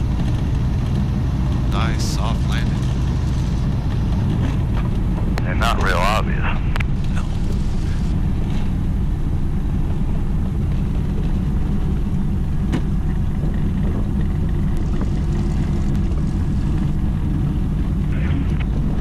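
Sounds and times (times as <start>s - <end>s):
radial aircraft engine running: 0.0s - 19.0s.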